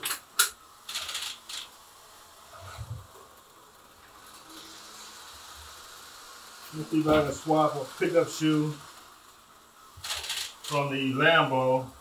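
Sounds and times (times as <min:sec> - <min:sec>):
slot car motor buzzing: 0:00.0 - 0:12.0.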